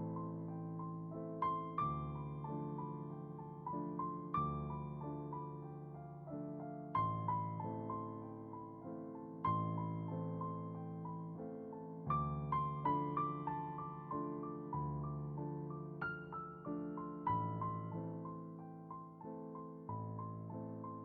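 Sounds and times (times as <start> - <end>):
gentle solo piano: 0.0 - 21.0.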